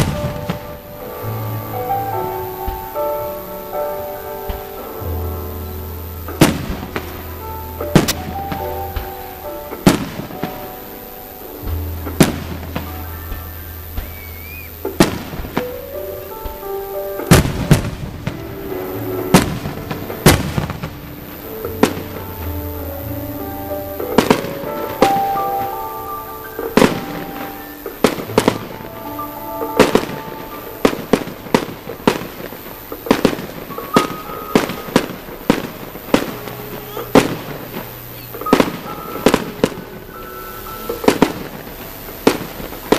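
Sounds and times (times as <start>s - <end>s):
music: 0.0s - 42.9s
firework shells bursting: 5.8s - 22.8s, 23.7s - 42.9s.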